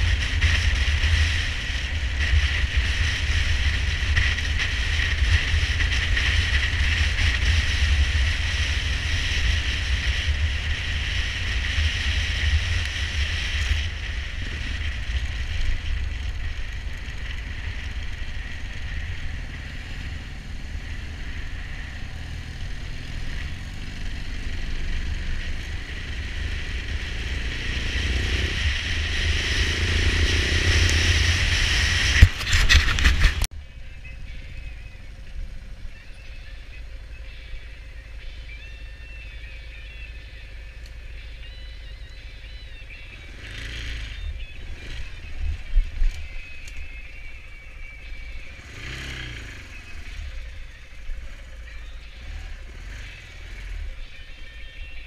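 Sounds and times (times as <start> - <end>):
motorcycle engine: 0.0 - 55.0
road noise: 0.0 - 55.0.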